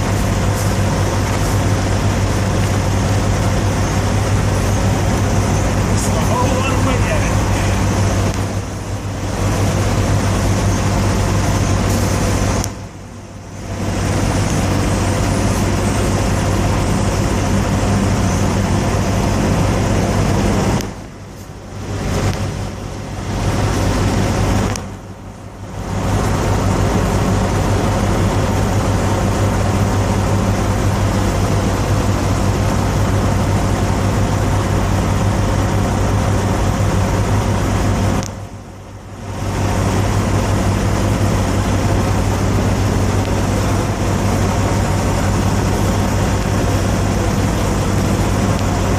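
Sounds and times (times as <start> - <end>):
diesel truck engine idling: 0.0 - 48.9.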